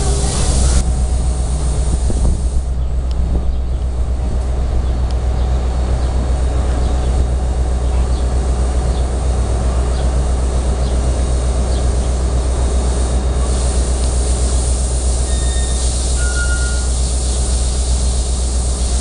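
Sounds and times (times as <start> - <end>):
train engine idling: 0.0 - 19.0.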